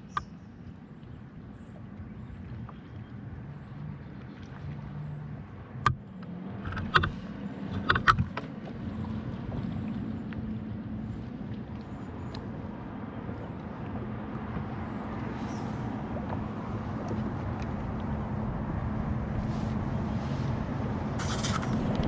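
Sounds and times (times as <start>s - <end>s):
watercraft engine running: 0.0s - 22.0s.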